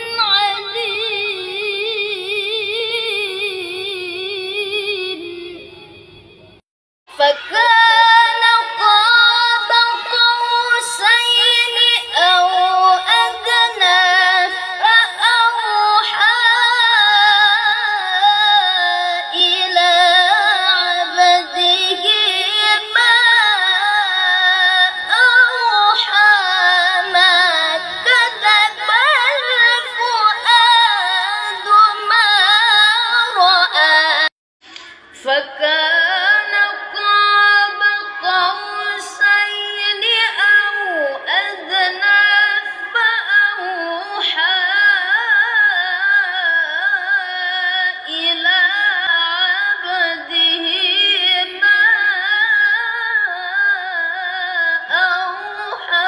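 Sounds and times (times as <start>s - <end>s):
boy reciting melodically: 0.0s - 5.9s, 7.1s - 56.0s.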